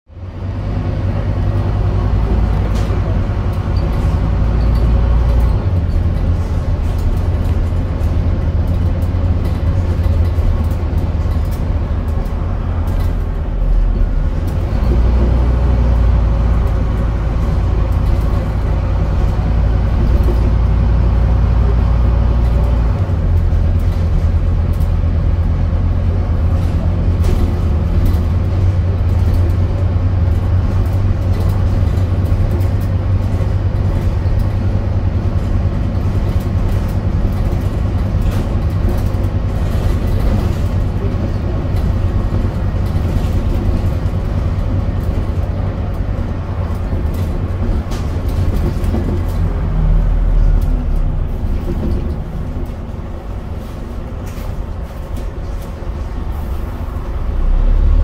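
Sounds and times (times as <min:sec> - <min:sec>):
bus diesel engine drone: 0:00.1 - 0:58.0.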